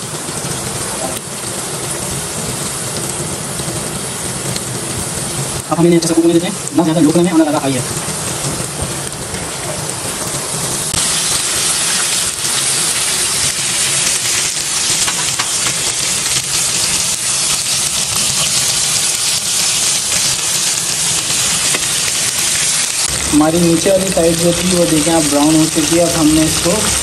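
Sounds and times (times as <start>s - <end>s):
chicken deep-frying in oil: 0.0s - 27.0s.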